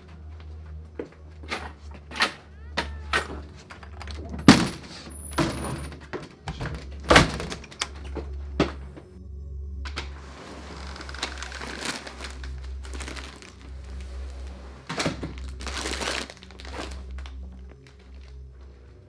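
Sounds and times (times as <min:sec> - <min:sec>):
steady low hum: 0:03.4 - 0:19.0.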